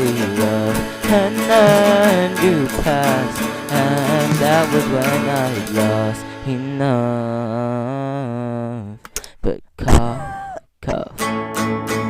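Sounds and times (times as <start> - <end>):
slow sad song: 0.0 - 12.0.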